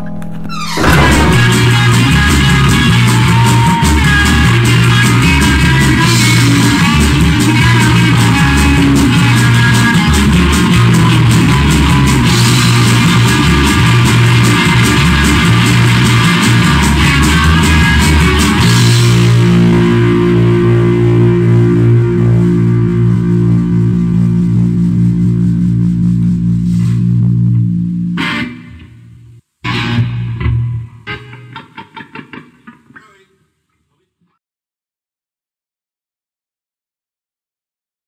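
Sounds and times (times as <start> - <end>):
loud rock music: 0.0 - 29.0, 29.6 - 32.5.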